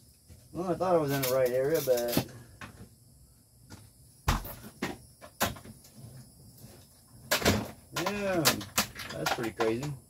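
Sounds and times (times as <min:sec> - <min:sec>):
knocks and clunks of stored things: 0:00.3 - 0:02.9, 0:03.7 - 0:10.0.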